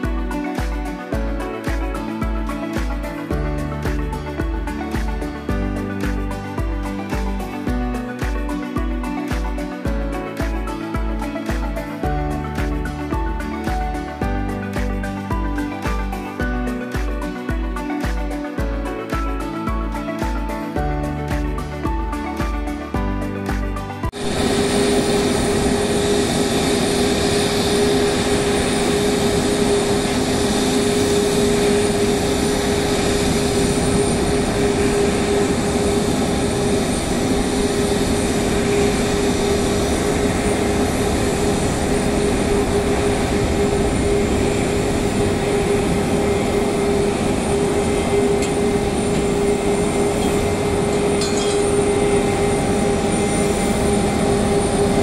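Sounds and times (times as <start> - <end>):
jet engines running at low power: 0.0 - 55.0.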